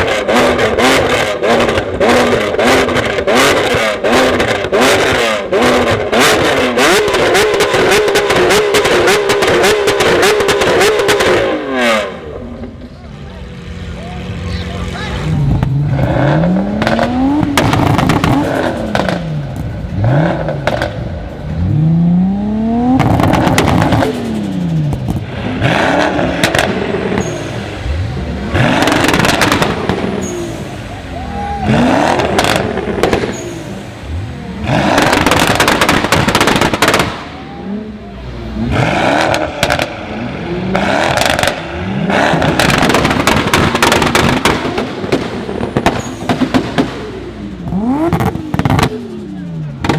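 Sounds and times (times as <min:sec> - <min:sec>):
sports car engine revving: 0:00.0 - 0:49.9.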